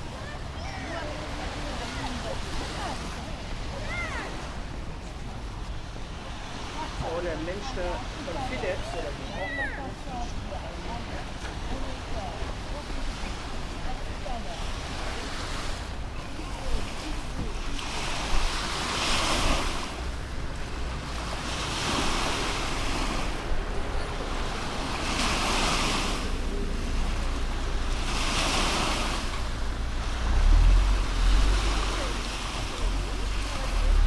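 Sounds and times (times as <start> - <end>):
waves breaking on a beach: 0.0 - 34.0.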